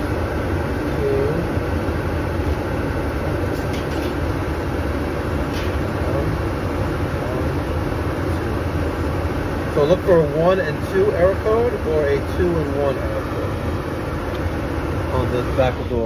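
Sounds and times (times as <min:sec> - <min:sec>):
furnace blower motor running: 0:00.0 - 0:16.0.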